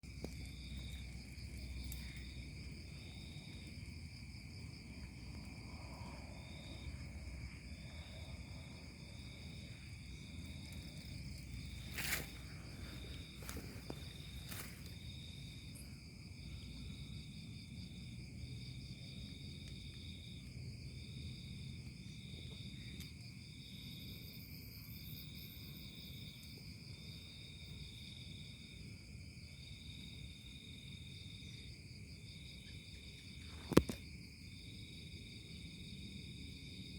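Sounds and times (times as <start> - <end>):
insects trilling: 0.0 - 36.9
pulsing insect call: 0.1 - 34.8.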